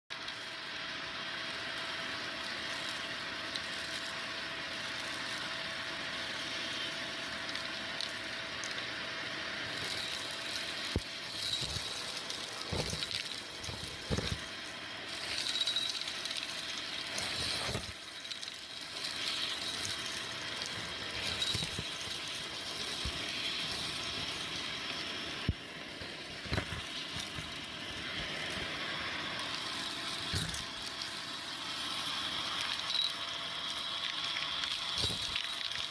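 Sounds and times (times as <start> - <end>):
vacuum cleaner running: 0.2 - 34.0, 34.6 - 35.9.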